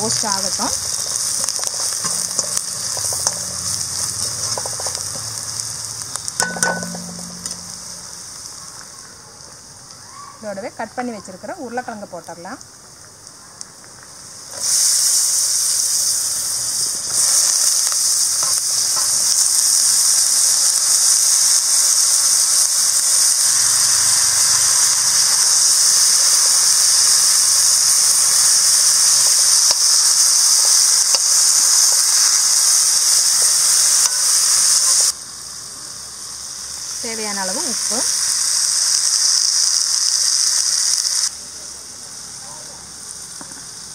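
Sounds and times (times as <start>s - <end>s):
potatoes sizzling in hot oil: 0.0s - 43.9s.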